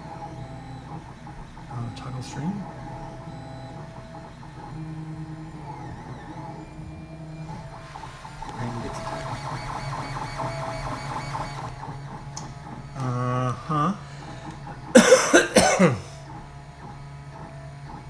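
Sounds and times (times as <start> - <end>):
printer stepper motors whirring: 0.0 - 18.0.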